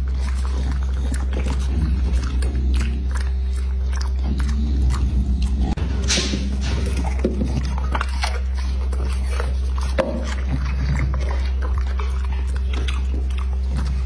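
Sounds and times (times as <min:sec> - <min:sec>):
dog crunching vegetable: 0:00.0 - 0:14.0
low hum: 0:00.0 - 0:14.0.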